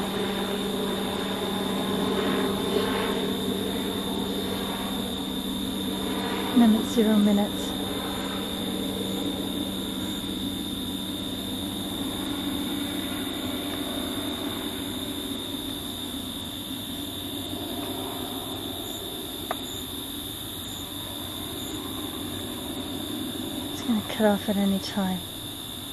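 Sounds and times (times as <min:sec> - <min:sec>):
helicopter droning overhead: 0:00.0 - 0:25.9
thin high-pitched whine: 0:00.0 - 0:25.9.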